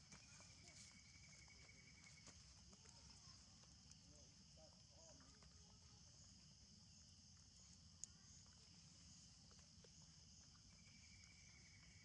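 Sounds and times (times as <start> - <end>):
faint ticks of twigs: 0.0 - 12.0
insects chirring: 0.0 - 12.0.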